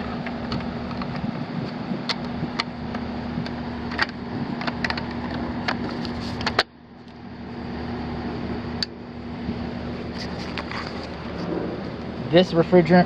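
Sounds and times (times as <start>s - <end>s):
condensing unit humming: 0.0s - 13.0s.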